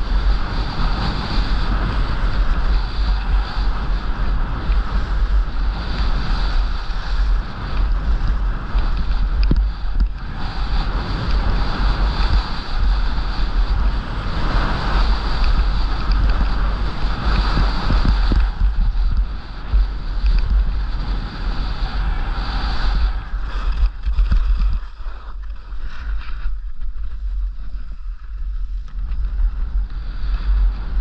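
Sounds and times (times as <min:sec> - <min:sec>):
skis sliding on snow: 0:00.0 - 0:31.0
wind buffeting microphone: 0:00.0 - 0:31.0.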